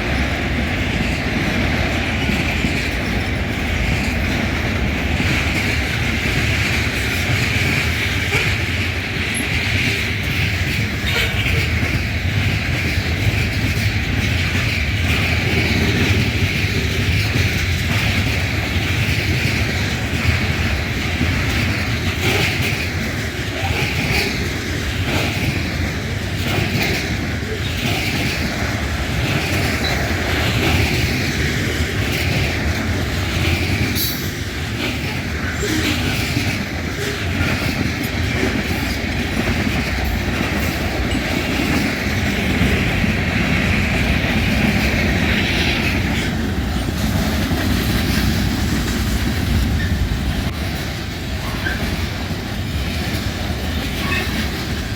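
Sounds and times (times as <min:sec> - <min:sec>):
train rumbling past: 0:00.0 - 0:54.9.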